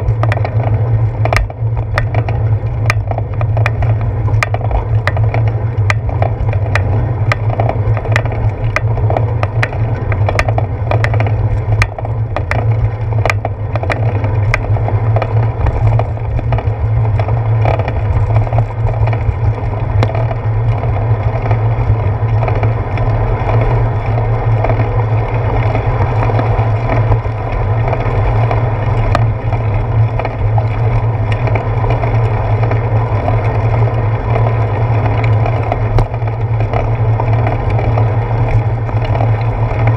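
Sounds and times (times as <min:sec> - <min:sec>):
bicycle rolling on wet path: 0:00.0 - 0:39.9
sharp ticks and rattles: 0:00.0 - 0:39.9.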